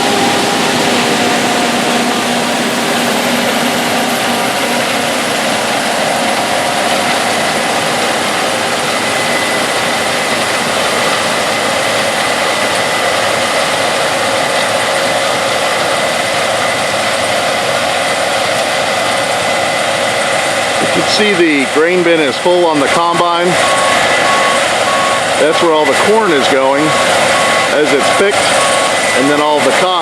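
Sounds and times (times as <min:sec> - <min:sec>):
combine harvester machine noise: 0:00.0 - 0:30.0.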